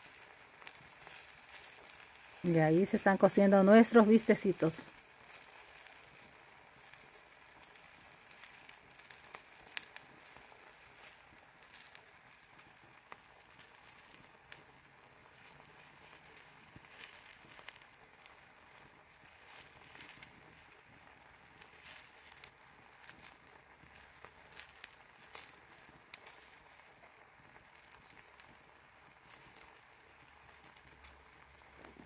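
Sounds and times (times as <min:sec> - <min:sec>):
meat sizzling with pops: 0:00.0 - 0:32.0.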